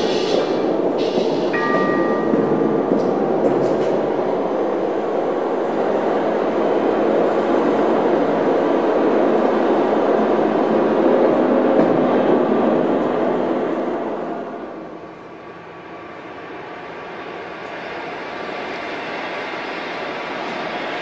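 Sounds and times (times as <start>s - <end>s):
tram rumbling: 0.0s - 21.0s.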